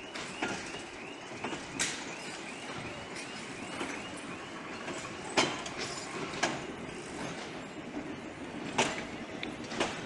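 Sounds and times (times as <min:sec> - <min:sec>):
train wheels rumbling: 0:00.0 - 0:10.0
wheels clanking over rail joints: 0:00.0 - 0:10.0.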